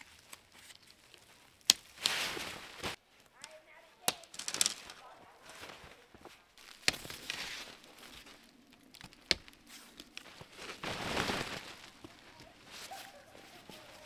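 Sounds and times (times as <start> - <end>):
tent fabric rustling: 0.0 - 14.0.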